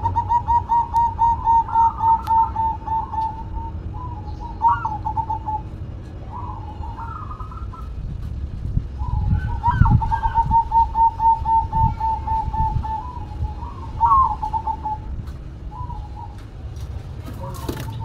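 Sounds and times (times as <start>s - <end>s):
dove cooing: 0.0s - 8.2s, 8.9s - 18.0s
steady low rumble: 0.0s - 18.0s.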